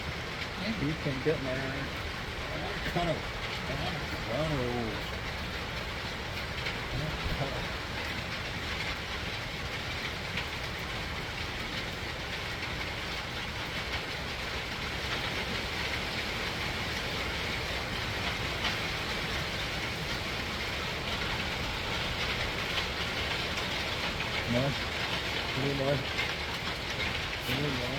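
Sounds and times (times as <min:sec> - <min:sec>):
heavy rain hissing: 0:00.0 - 0:27.9.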